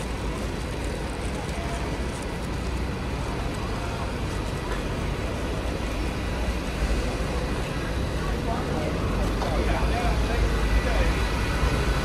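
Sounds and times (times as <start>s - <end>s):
coach engine running: 0.0s - 12.0s
road noise rumble: 0.0s - 12.0s.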